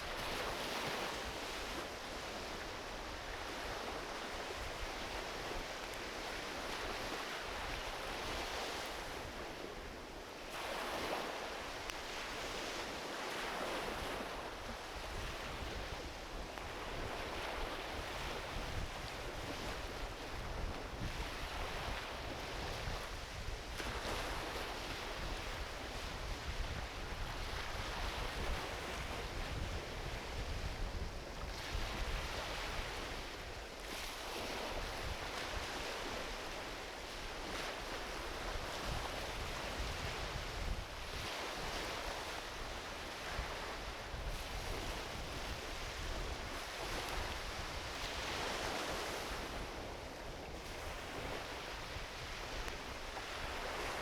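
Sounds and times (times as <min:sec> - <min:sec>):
small waves washing onto beach: 0:00.0 - 0:54.0
wind rumble on microphone: 0:00.0 - 0:54.0.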